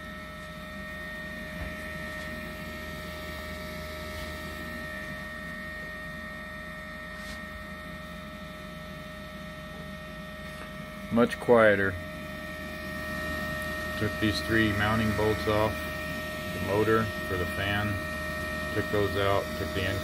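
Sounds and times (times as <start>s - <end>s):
boiler blower fan whining: 0.0s - 20.0s.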